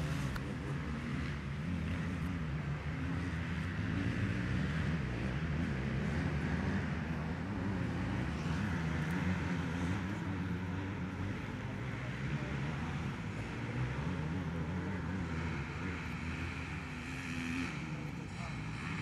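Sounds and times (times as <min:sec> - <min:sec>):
distant motorcycle engines droning: 0:00.0 - 0:19.0.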